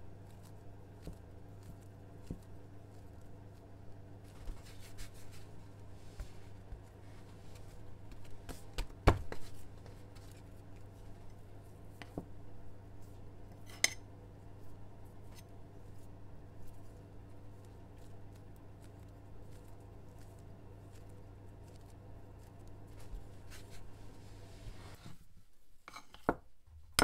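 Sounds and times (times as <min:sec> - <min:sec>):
low steady hum: 0:00.0 - 0:25.8.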